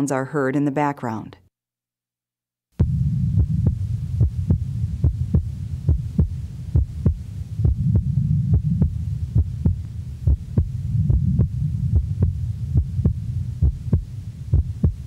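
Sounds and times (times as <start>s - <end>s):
heartbeat lub-dub: 2.8s - 15.0s
low rumble: 2.8s - 15.0s.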